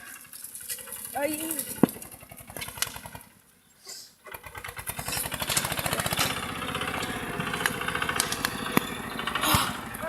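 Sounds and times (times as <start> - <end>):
small tractor engine running: 0.1 - 3.4, 4.2 - 10.0.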